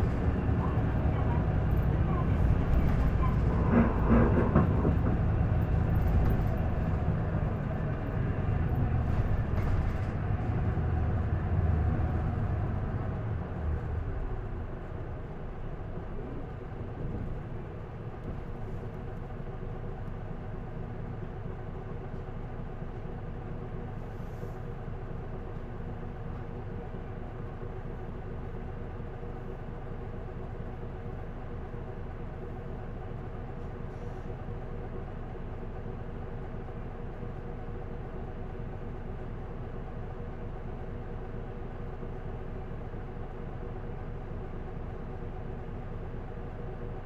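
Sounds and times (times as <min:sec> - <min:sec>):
bus diesel engine from inside: 0:00.0 - 0:47.0.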